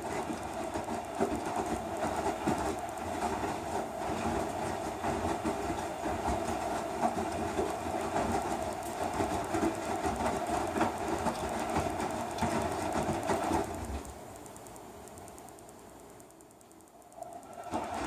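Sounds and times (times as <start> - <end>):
washing machine rumbling: 0.0 - 15.4, 17.0 - 18.0
quiet hum: 0.0 - 18.0.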